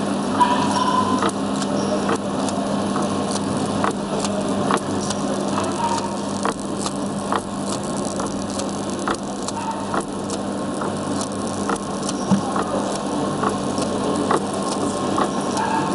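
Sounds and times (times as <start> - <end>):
printing press hum: 0.0 - 15.9
light machine clicks: 0.8 - 15.8.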